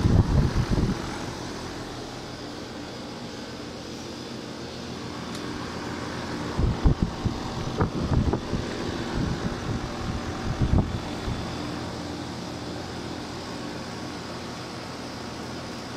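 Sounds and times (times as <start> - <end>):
air conditioner humming: 0.0 - 15.9.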